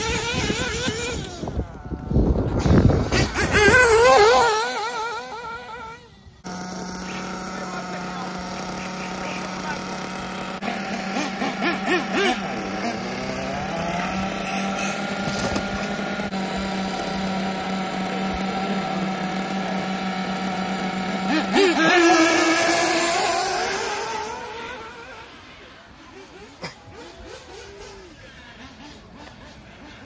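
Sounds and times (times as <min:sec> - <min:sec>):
rc car motors revving: 0:00.0 - 0:30.0.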